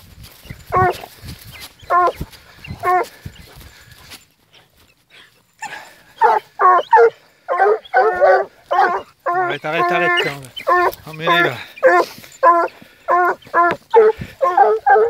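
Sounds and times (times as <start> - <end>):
hounds baying: 0.3 - 15.0.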